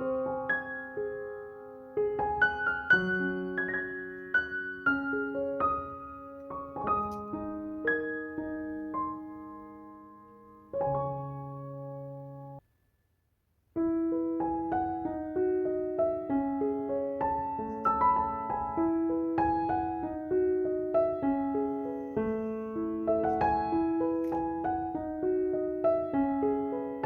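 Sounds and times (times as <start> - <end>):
gentle piano music: 0.0 - 12.6, 13.8 - 27.0.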